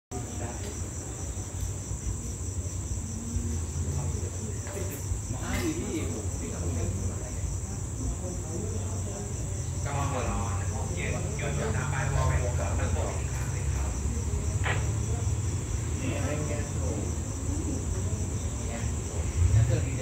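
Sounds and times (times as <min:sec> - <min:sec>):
night insects chirring: 0:00.1 - 0:20.0.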